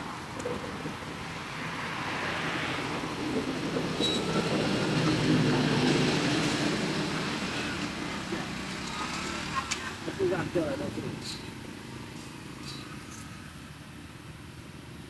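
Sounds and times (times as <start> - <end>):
passing motor vehicle: 0.0 - 14.3.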